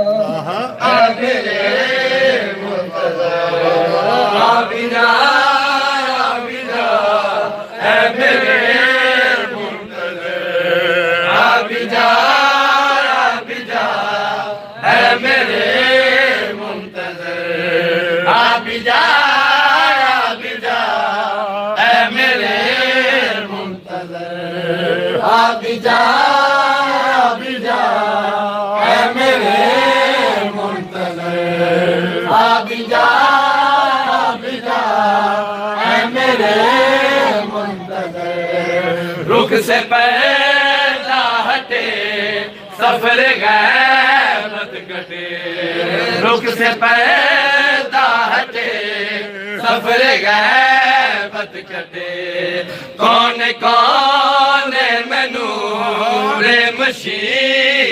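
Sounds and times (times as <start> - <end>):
men chanting together: 0.1 - 57.9.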